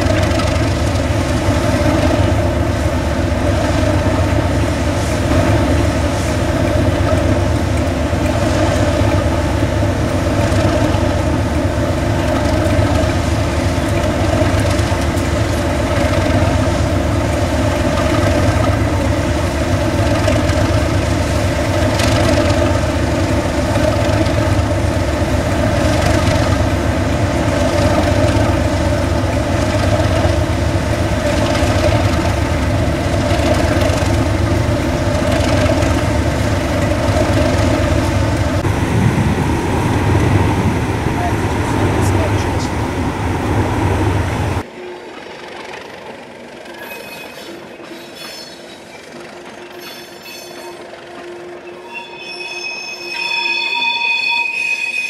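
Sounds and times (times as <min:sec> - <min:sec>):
engine idling: 0:00.0 - 0:44.7.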